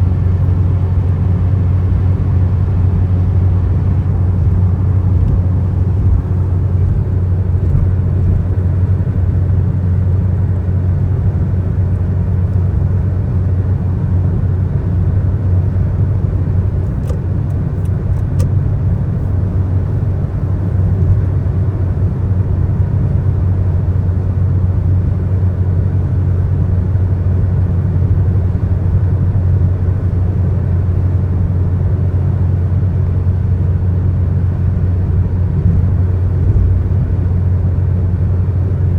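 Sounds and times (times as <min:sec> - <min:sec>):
car driving at highway speed: 0:00.0 - 0:38.9.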